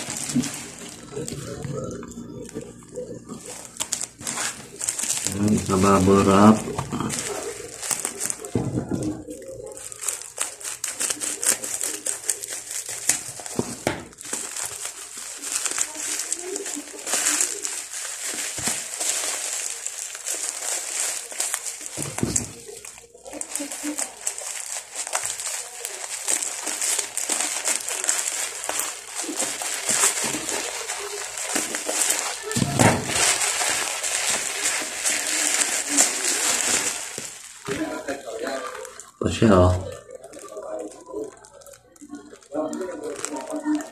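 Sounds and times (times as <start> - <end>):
bubble wrap crinkling: 0.0 - 43.9.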